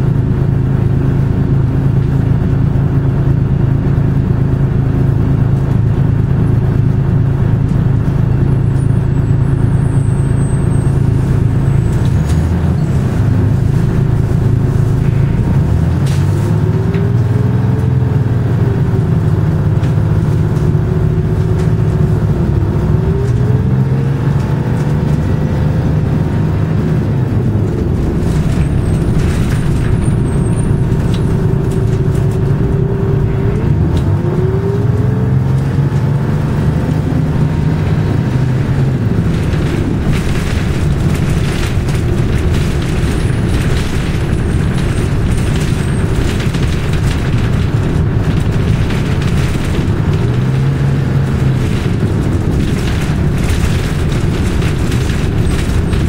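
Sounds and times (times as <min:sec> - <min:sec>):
bus diesel engine droning: 0:00.0 - 0:56.0
engine whine: 0:00.0 - 0:56.0.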